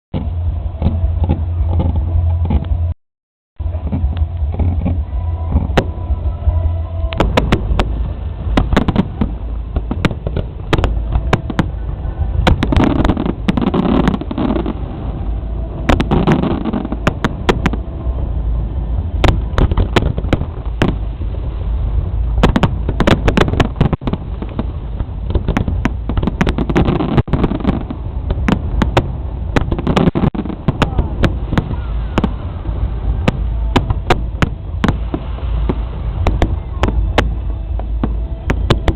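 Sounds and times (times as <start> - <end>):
deep rumble: 0.1 - 3.0, 3.6 - 38.9
fireworks bangs and crackles: 0.1 - 3.0, 3.6 - 38.9.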